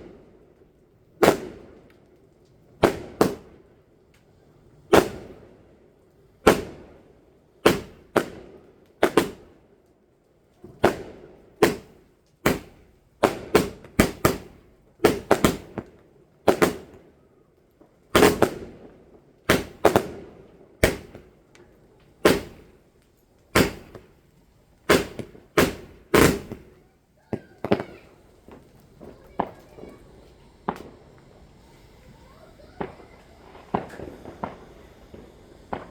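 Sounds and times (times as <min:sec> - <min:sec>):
fireworks exploding: 0:00.0 - 0:09.8, 0:10.6 - 0:35.9.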